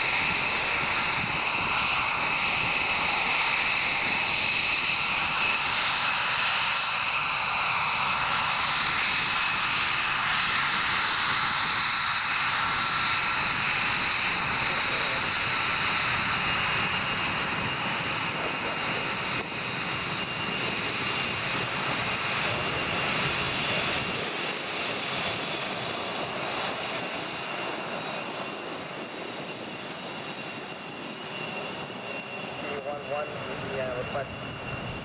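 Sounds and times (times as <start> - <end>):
jet engine roar and whine: 0.0 - 35.0.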